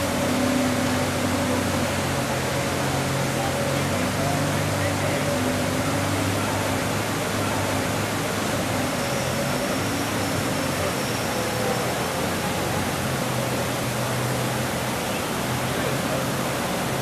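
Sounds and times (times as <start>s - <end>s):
water cascading down fountain: 0.0s - 17.0s.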